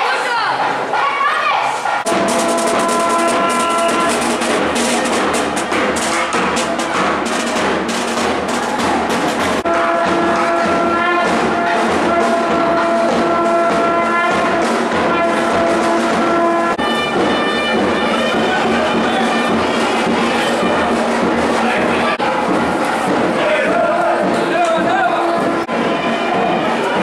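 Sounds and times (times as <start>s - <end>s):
sharp drum strokes: 0.6s - 27.0s
wind instruments playing melody: 2.1s - 27.0s.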